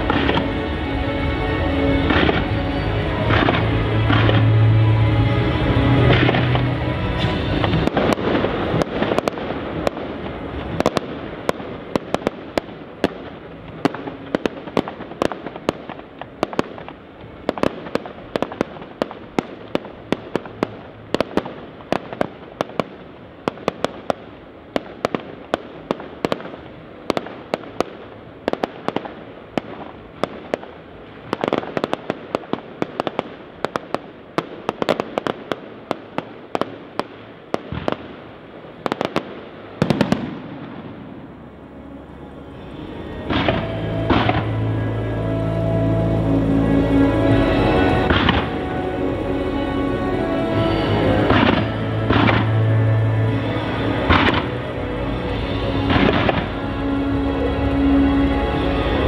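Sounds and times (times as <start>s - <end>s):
fireworks bangs and cracks: 0.0s - 41.4s, 42.7s - 45.2s, 46.2s - 59.0s.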